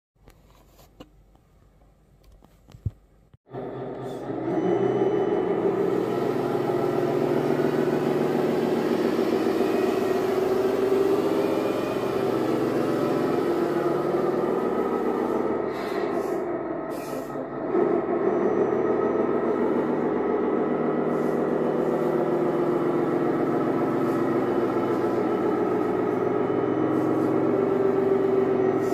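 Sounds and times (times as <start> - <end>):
simulated diesel engine: 3.5 - 28.9.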